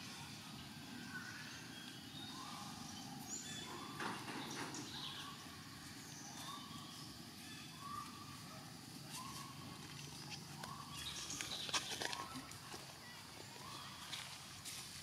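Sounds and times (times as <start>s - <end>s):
chirping animal calls: 0.6s - 12.6s.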